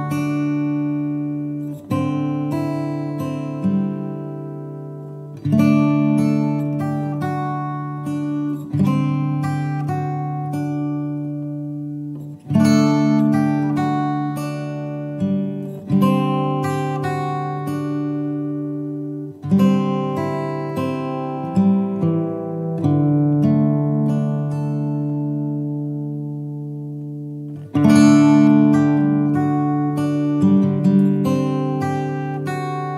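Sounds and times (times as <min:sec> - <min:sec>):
strummed acoustic guitar: 0:00.0 - 0:32.9.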